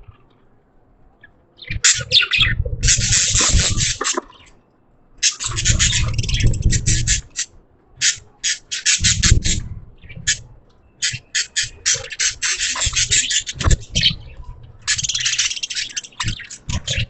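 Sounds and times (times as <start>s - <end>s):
budgies chirping and chattering: 1.2s - 4.6s, 5.2s - 17.0s.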